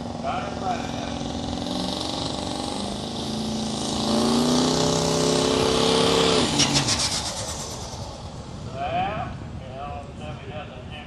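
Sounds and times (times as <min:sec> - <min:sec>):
diesel engine revving: 0:00.0 - 0:09.6.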